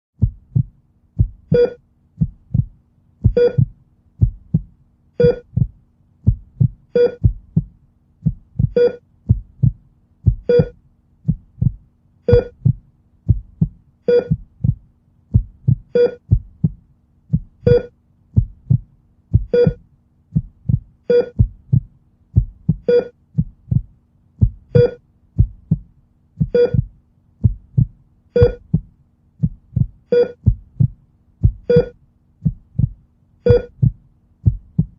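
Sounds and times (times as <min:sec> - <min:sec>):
faint steady hum: 0:00.2 - 0:34.9
heartbeat thumps: 0:00.2 - 0:34.9.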